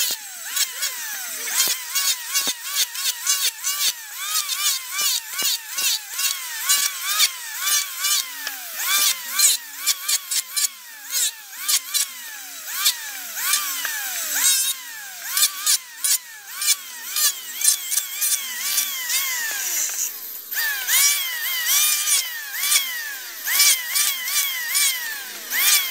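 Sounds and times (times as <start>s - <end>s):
electric planer whining: 0.0s - 25.9s
wood crackling as cut: 0.0s - 25.9s.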